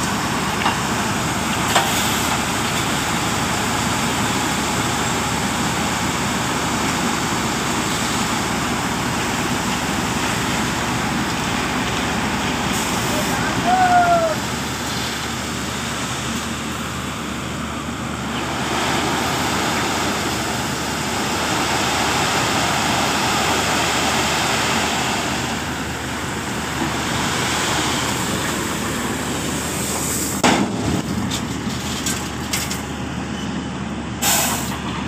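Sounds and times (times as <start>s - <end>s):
truck engine humming: 0.0s - 35.0s.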